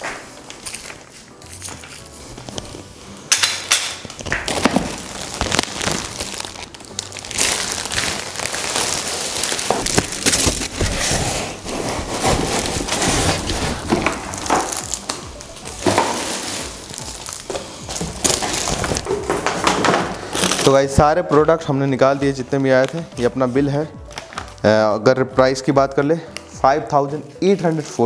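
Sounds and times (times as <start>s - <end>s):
plastic and cardboard crinkling: 0.0s - 21.4s, 22.0s - 24.7s.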